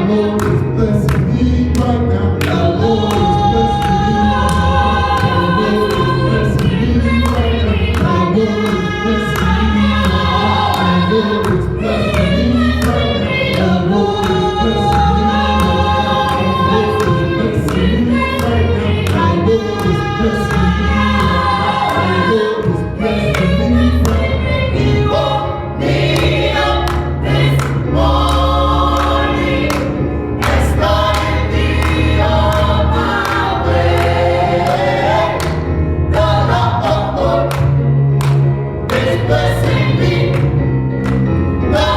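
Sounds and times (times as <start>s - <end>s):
gospel choir singing: 0.0s - 41.9s.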